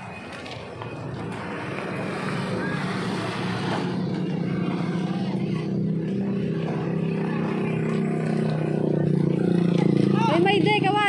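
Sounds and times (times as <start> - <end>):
motorcycle engine running: 1.3 - 11.0.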